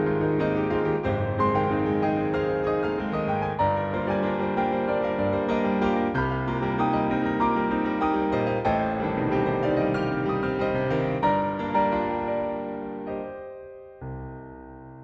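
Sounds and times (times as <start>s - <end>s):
solo piano chords and runs: 0.0s - 15.0s.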